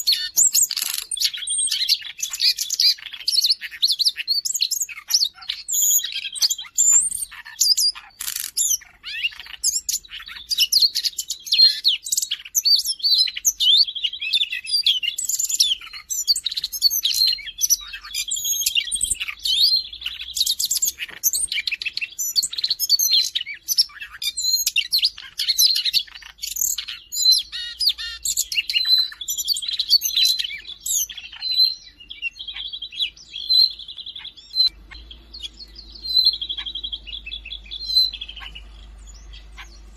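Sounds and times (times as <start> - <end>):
bird singing chirps and whistles: 0.0 - 39.9
buzzy bird trill: 0.0 - 39.9.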